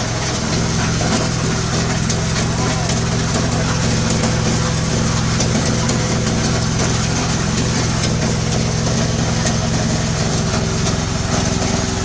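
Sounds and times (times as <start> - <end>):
shredder engine running: 0.0 - 12.0.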